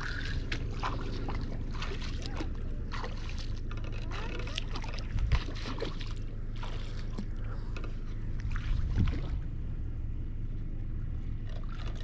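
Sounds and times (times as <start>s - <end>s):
steady low rumble: 0.0s - 12.0s
wading through shallow water: 0.0s - 12.0s.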